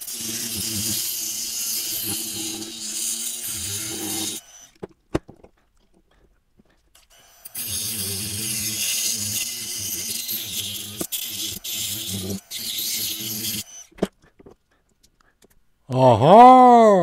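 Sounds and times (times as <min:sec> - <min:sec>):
rotary tool grinding plastic: 0:00.0 - 0:15.6.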